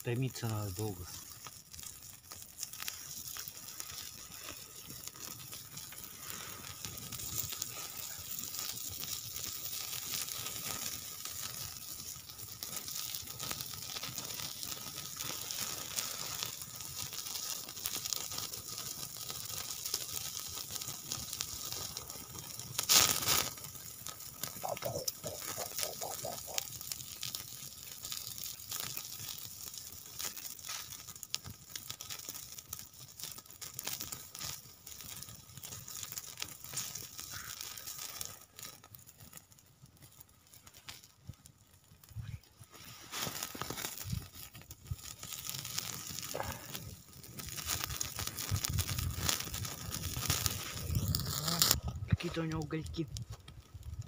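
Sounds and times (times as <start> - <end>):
campfire crackling and hissing: 0.0 - 54.0
loud fire crack: 0.0 - 54.0.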